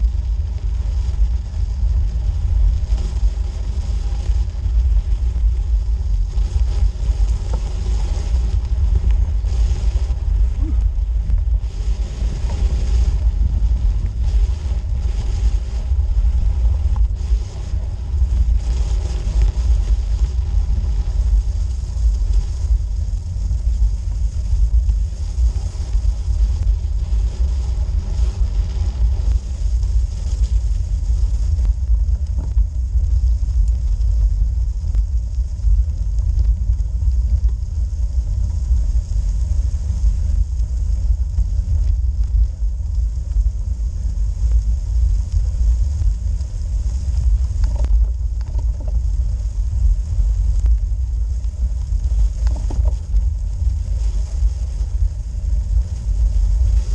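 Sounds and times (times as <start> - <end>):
bicycle tyre road vibration: 0.0 - 56.9
wind buffeting microphone: 0.0 - 56.9.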